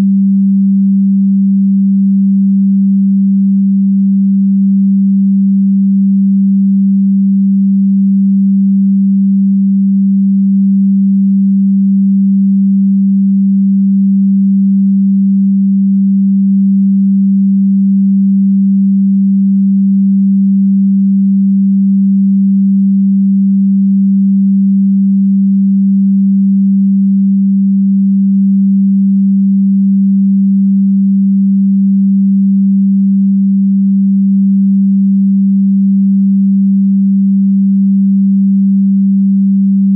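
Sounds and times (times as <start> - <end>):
low electronic sine tone: 0.0 - 39.9.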